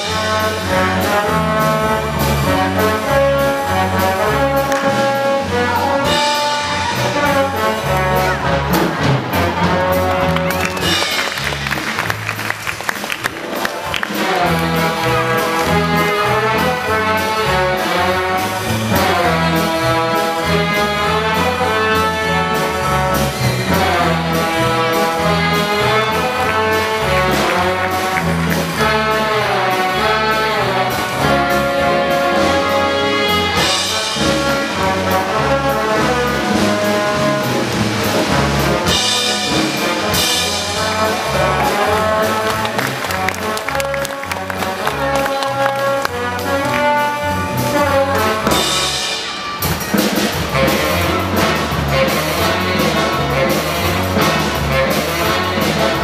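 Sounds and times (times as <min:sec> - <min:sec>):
brass band circus music: 0:00.0 - 0:56.0.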